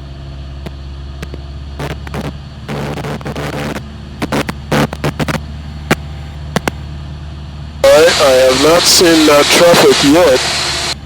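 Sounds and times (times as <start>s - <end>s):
aircraft engine and propeller drone: 0.0s - 11.0s
radio static crackling: 0.6s - 6.9s, 7.8s - 11.0s.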